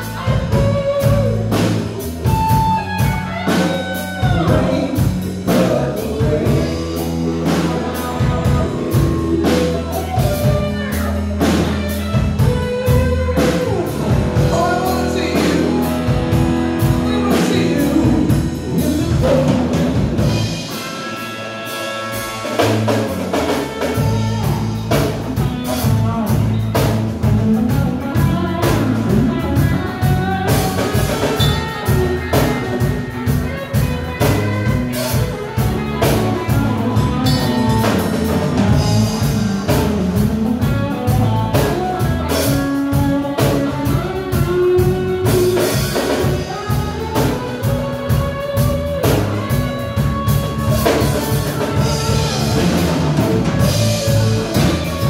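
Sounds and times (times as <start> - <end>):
live reggae band: 0.0 - 55.0.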